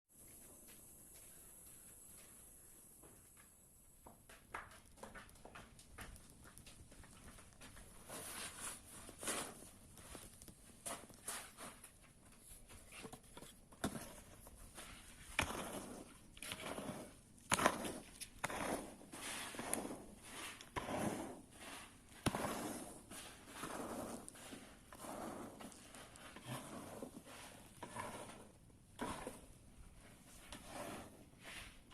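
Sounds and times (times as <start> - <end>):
rustling and scraping strokes: 6.0 - 31.9.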